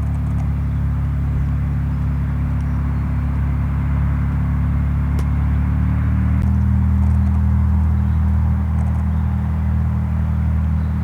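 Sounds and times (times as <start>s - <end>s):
light aircraft engine humming: 0.0s - 11.0s.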